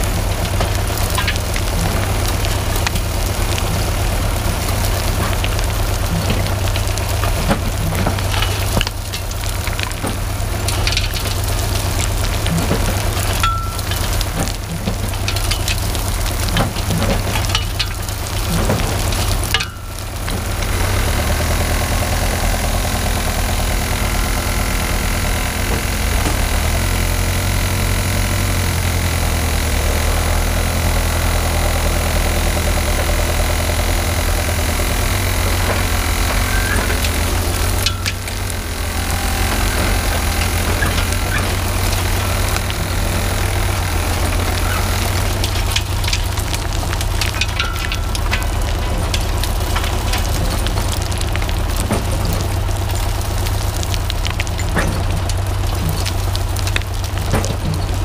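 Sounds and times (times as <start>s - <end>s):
dirt and stones rattling through mesh: 0.0s - 58.0s
engine running: 0.0s - 58.0s.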